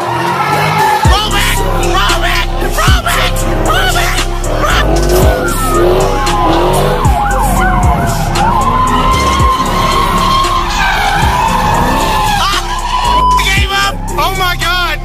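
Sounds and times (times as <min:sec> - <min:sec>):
car tyres squealing: 0:00.0 - 0:15.0
low engine rumble: 0:01.1 - 0:15.0.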